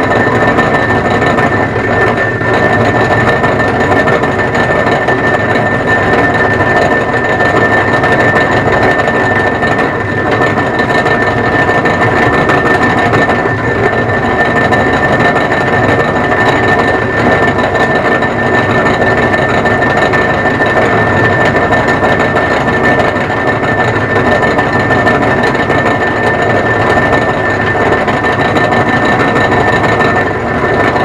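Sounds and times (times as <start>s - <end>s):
lathe running: 0.0s - 31.0s.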